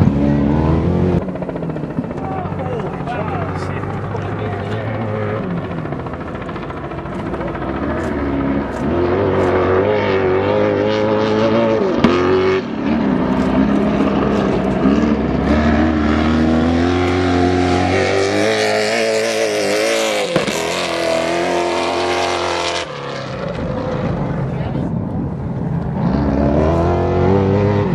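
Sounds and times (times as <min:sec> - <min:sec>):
truck engines racing at full throttle: 0:00.0 - 0:27.9.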